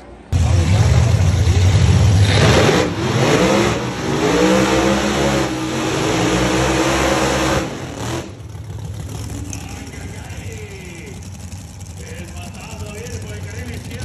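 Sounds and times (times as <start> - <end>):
race car engine accelerating: 0.3 - 14.0.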